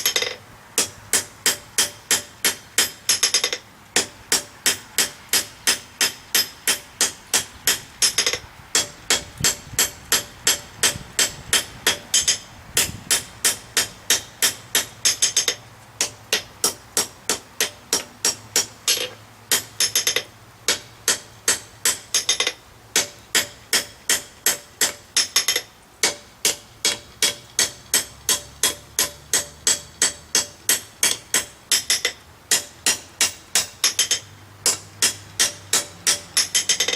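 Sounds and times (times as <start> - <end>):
hammer striking steel on anvil: 0.0 - 36.9.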